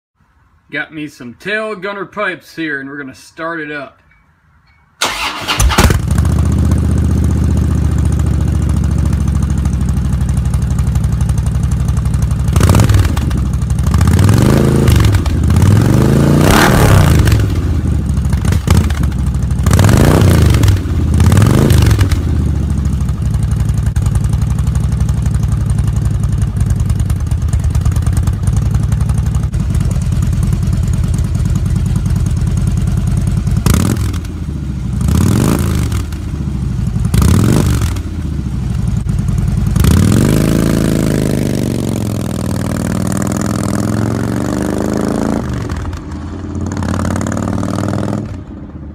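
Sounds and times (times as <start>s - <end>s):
motorcycle engine starting and idling: 4.7s - 48.9s
motorcycle engine revving: 5.0s - 48.9s.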